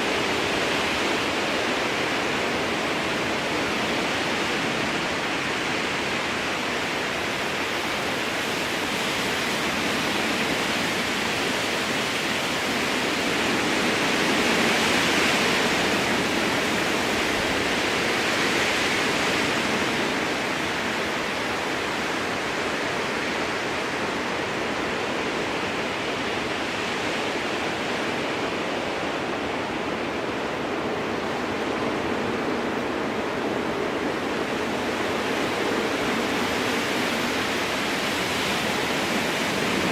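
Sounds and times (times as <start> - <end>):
strong wind through trees: 0.0 - 39.9.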